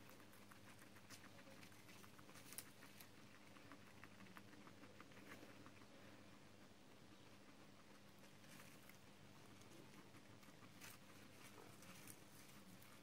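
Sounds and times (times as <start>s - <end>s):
faint steady low hum: 0.0s - 13.0s
guinea pigs nibbling in hay: 0.0s - 13.0s.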